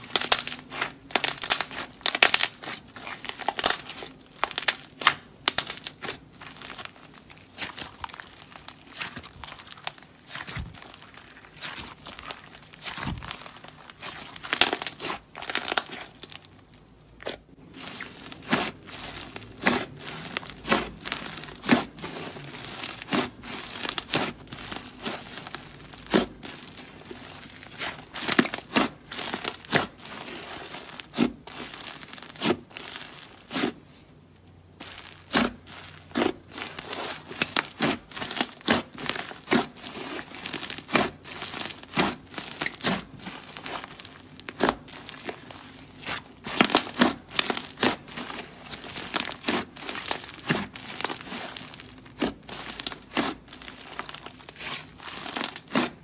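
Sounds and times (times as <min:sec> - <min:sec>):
slime tearing and popping: 0:00.0 - 0:33.8, 0:34.8 - 0:56.0.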